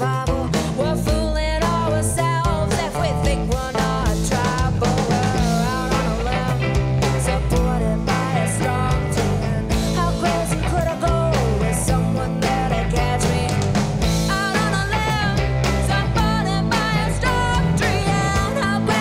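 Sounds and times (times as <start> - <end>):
bass guitar: 0.0 - 19.0
drums: 0.0 - 19.0
electric guitar: 0.0 - 19.0
woman singing: 0.0 - 19.0.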